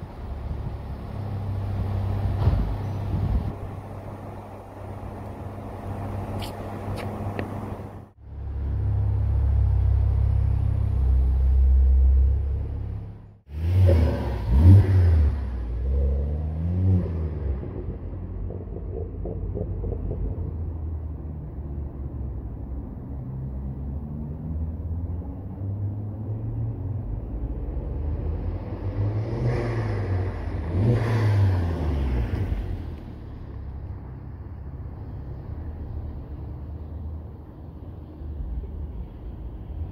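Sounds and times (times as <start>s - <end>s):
car engine droning: 0.0s - 39.9s
engine throttle blips and revving: 0.0s - 39.9s.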